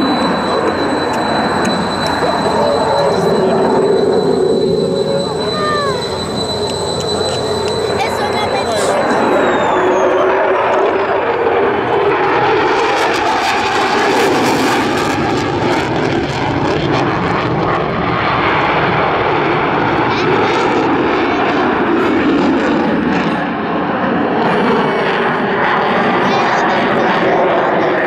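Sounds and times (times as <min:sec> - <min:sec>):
loud jet noise: 0:00.0 - 0:28.0.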